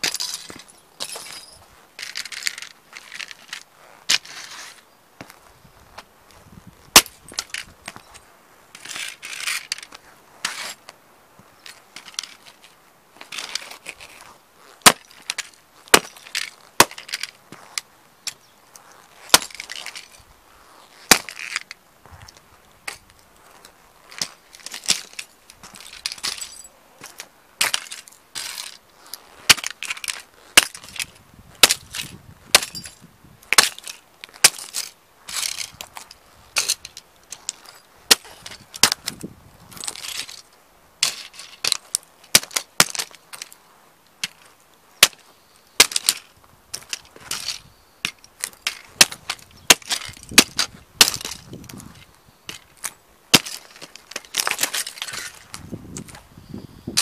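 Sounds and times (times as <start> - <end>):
toy cars cracking under boots: 0.0 - 4.8, 8.8 - 10.8, 11.7 - 20.2, 20.8 - 21.8, 22.8 - 56.2
soles grinding on concrete: 0.0 - 57.0.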